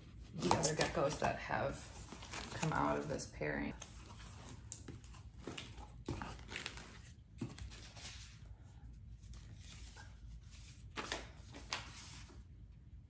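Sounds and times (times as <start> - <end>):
cardboard and paper rustling: 0.0 - 12.5.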